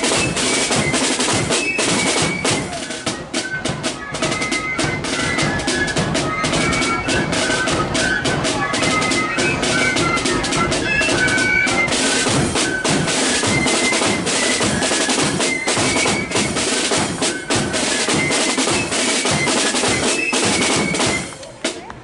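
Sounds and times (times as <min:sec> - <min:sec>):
flutes playing melody: 0:00.0 - 0:21.9
snare drum rolls: 0:00.0 - 0:22.0.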